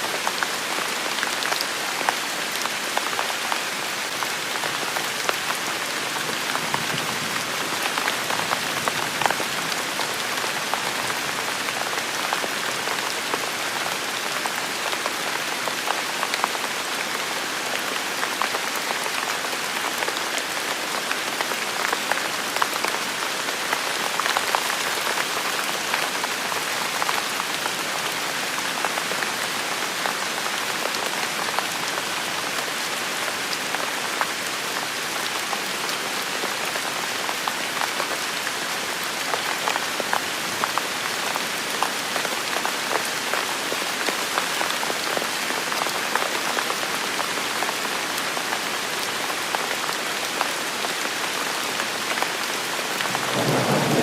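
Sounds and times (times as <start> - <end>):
steady rain falling: 0.0 - 54.0
raindrops striking surfaces: 0.1 - 54.0.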